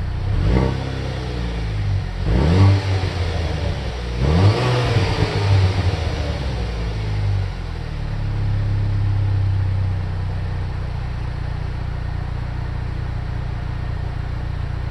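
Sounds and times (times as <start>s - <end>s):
car engine revving and idling: 0.0s - 14.9s.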